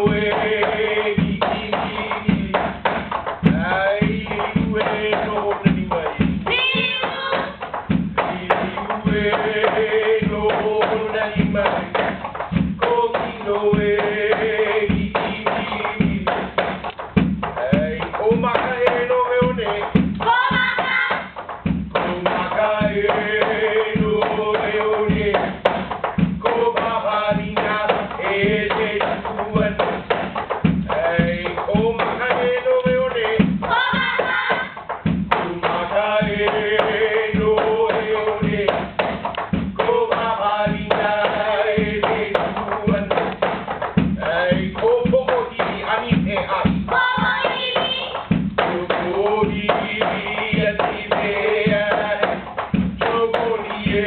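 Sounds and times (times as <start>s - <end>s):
gourd drum strikes: 0.0s - 54.0s.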